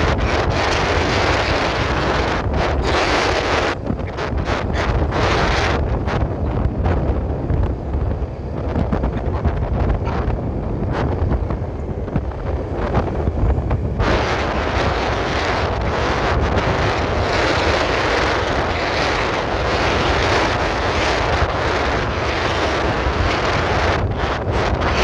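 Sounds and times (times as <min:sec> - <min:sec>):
traffic noise: 0:00.0 - 0:25.0
wind buffeting microphone: 0:00.0 - 0:25.0.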